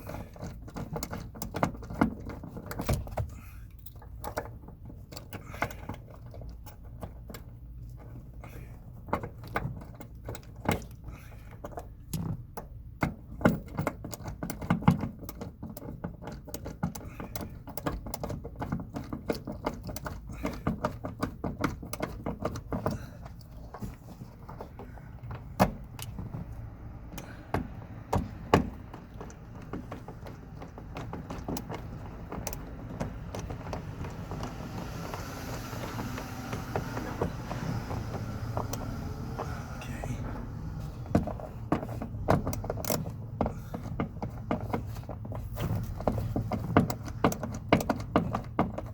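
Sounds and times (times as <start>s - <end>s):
tools and parts clicking and rattling: 0.0s - 48.9s.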